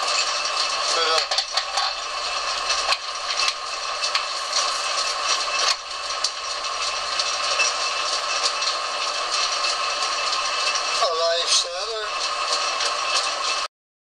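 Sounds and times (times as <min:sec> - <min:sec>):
metal lathe running: 0:00.0 - 0:13.7
tailstock clicks and rattles: 0:00.0 - 0:13.7.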